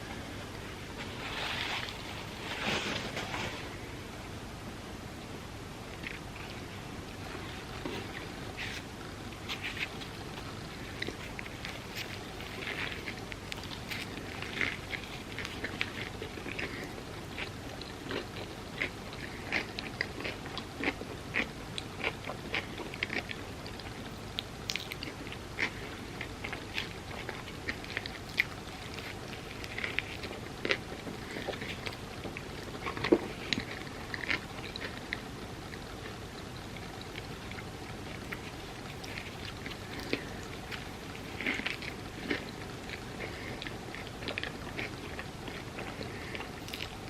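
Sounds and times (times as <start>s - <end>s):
chewing crispy fried food: 5.9s - 47.0s.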